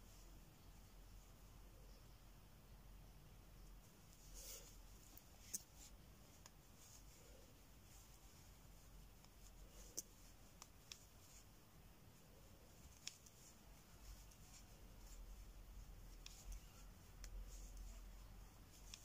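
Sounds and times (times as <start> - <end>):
low steady hum: 0.0 - 19.0
crochet hook and yarn handling: 3.5 - 19.0.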